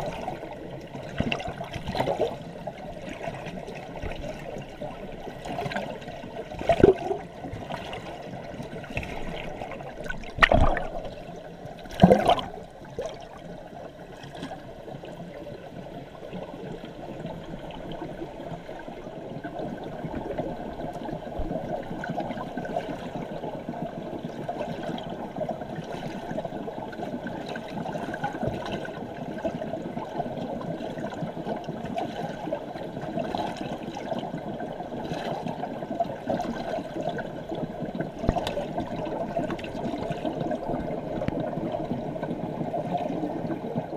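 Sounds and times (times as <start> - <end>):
underwater water rush: 0.0 - 43.9.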